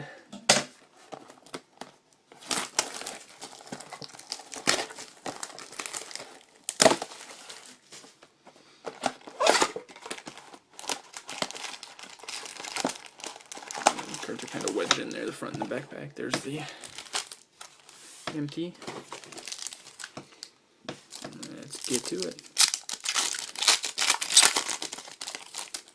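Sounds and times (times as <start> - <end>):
plastic wrapping crinkling and tearing: 1.0 - 8.0, 8.9 - 25.9.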